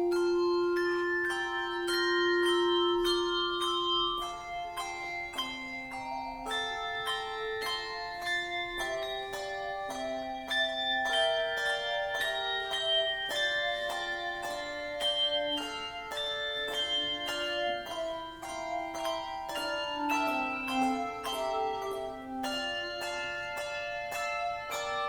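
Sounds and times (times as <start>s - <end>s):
tuned bells playing melody: 0.0s - 25.0s.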